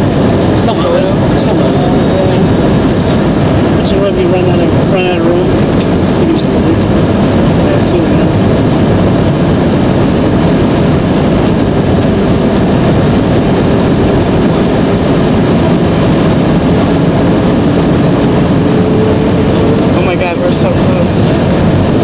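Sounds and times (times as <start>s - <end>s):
airliner cabin roar: 0.0s - 22.0s.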